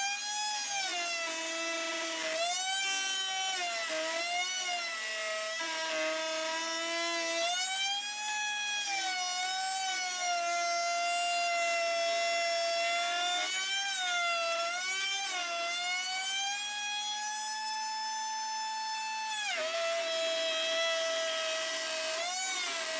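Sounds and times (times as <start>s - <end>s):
router motor whine: 0.0s - 22.9s.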